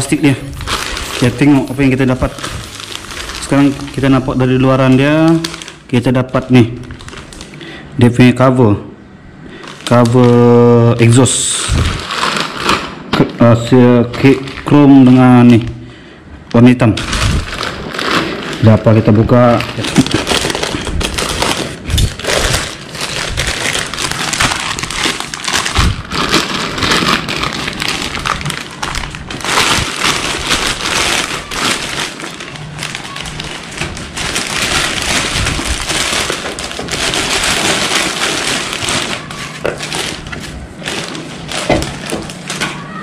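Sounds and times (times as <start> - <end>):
plastic tearing: 0.0 - 7.6, 9.6 - 15.7, 16.5 - 43.0
plastic wrapping crinkling: 0.0 - 8.6, 9.4 - 15.8, 16.5 - 43.0.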